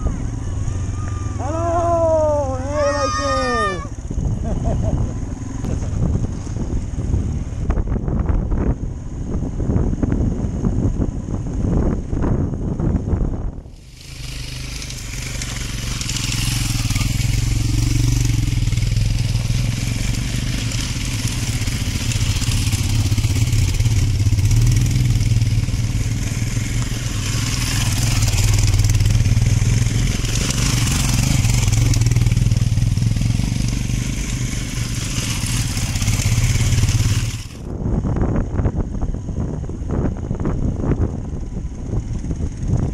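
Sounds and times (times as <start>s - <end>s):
motorcycle engine running: 0.0s - 42.9s
motorcycles climbing a stony track: 0.0s - 42.9s
wind noise: 3.7s - 42.9s.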